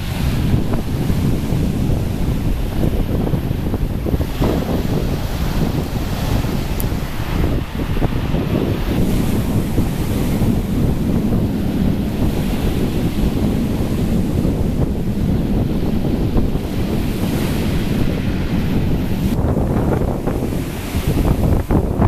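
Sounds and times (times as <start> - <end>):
surf breaking around pier: 0.0 - 22.0
wind buffeting microphone: 0.0 - 22.0.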